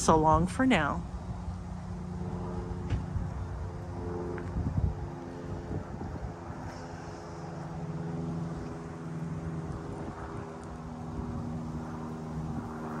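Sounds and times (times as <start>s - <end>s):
engine humming steadily: 0.0s - 13.0s
wind rumble on microphone: 0.0s - 13.0s.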